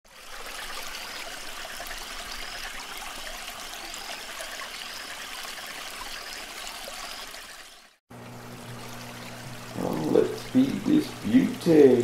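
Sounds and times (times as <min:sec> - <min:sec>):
running water: 0:00.1 - 0:12.0.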